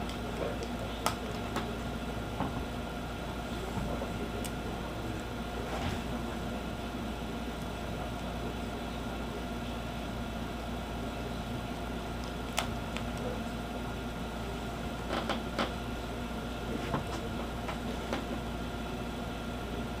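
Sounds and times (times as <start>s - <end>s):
background hum and hiss: 0.0s - 20.0s.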